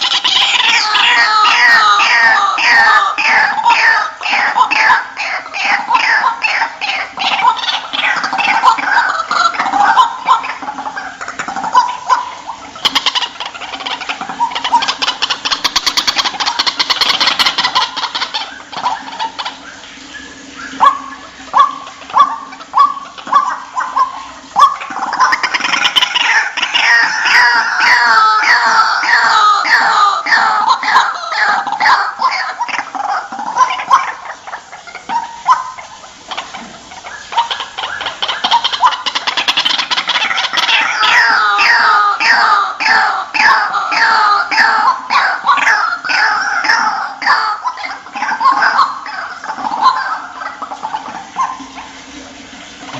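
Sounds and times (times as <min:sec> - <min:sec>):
loud sharp bird calls: 0:00.0 - 0:51.9
waterhen chattering: 0:00.0 - 0:52.9.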